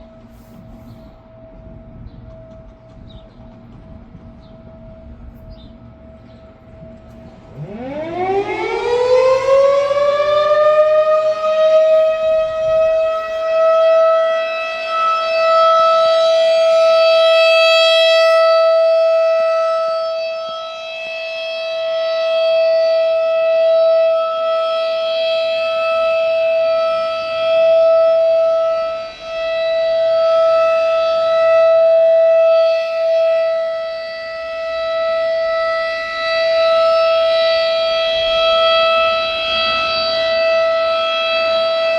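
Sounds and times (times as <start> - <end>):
warning siren wailing: 0.0 - 41.9.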